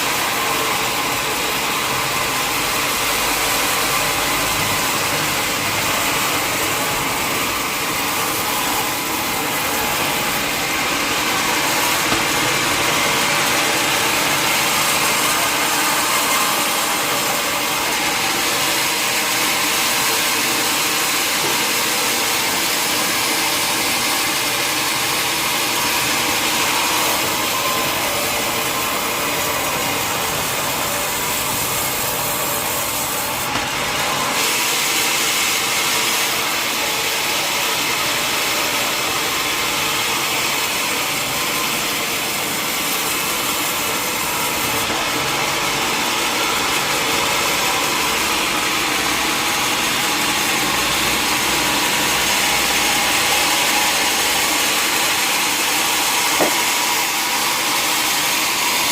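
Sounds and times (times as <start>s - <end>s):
saw cutting through wood: 0.0s - 58.9s.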